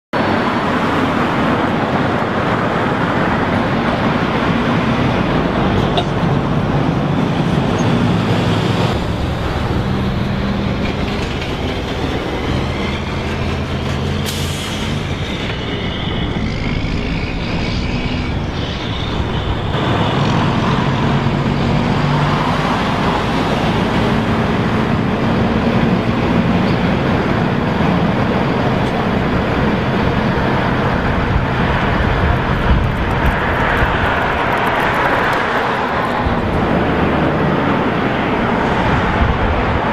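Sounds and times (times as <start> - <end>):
vehicle engines passing: 0.2 - 39.9.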